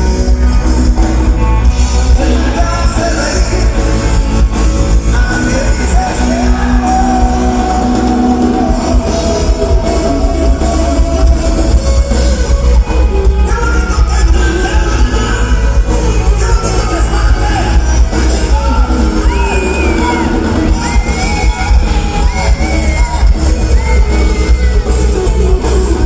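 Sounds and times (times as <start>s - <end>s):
heavy bass: 0.0s - 26.0s
live band playing amplified music: 0.0s - 26.0s
singer holding long notes: 0.0s - 26.0s.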